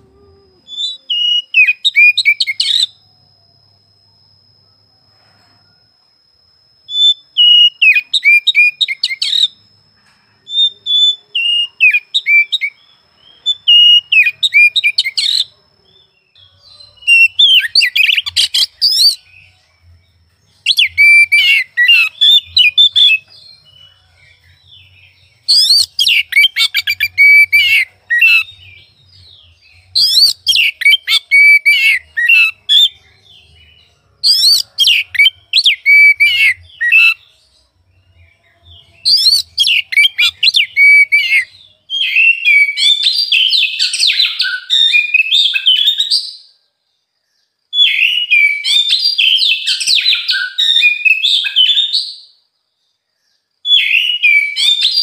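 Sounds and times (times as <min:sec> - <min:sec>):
bird singing whistles and chatters: 0:00.0 - 0:03.1, 0:06.9 - 0:09.6, 0:10.4 - 0:19.6, 0:20.3 - 0:37.5, 0:38.1 - 0:46.5, 0:47.7 - 0:52.4, 0:53.6 - 0:55.0.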